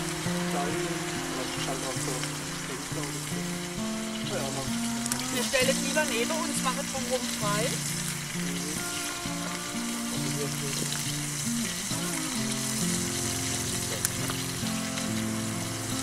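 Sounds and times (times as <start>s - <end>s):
food sizzling in a pan: 0.0s - 16.0s
slow background music: 0.0s - 16.0s.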